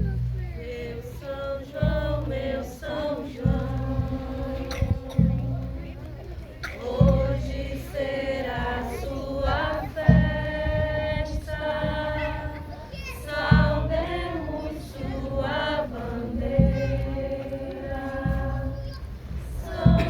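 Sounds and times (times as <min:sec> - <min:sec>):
deep low thumps: 0:00.0 - 0:20.0
group singing unaccompanied: 0:00.0 - 0:20.0.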